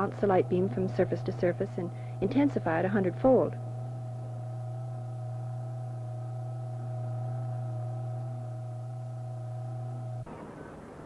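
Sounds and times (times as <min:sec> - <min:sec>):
faint wavering higher tones: 0:00.0 - 0:11.0
steady low hum: 0:00.0 - 0:11.0.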